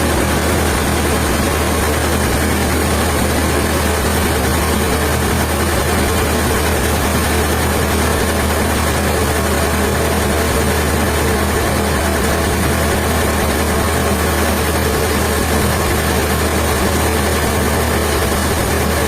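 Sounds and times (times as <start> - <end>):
sawmill machinery droning: 0.0 - 19.0.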